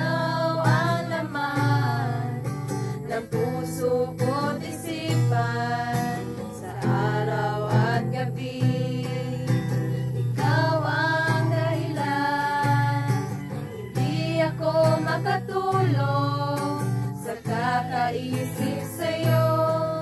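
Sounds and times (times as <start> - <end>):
acoustic guitar: 0.0 - 20.0
women singing together: 0.0 - 20.0.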